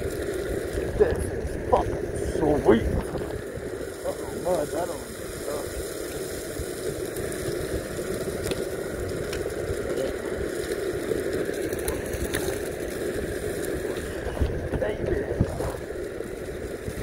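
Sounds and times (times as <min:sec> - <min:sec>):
skateboard wheels rolling on dirt: 0:00.0 - 0:17.0.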